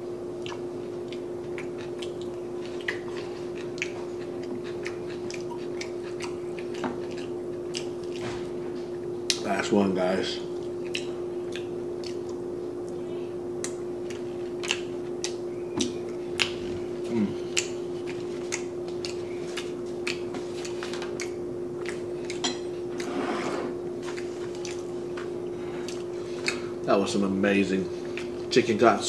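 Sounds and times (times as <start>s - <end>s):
steady low hum: 0.0s - 29.0s
wet chewing mouth clicks: 0.4s - 9.5s, 10.6s - 13.0s, 13.6s - 22.4s, 24.0s - 26.8s, 28.0s - 28.5s.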